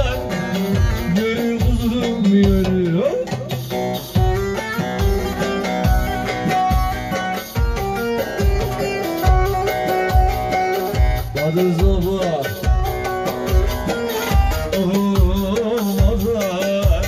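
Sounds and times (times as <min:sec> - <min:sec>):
hand drum beat: 0:00.0 - 0:17.0
plucked lute melody: 0:00.0 - 0:17.0.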